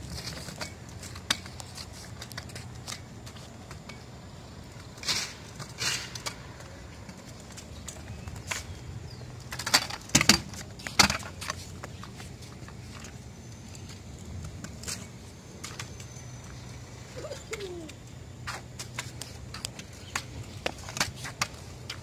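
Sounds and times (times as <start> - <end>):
kick scooter clacks on concrete: 0.0 - 22.0.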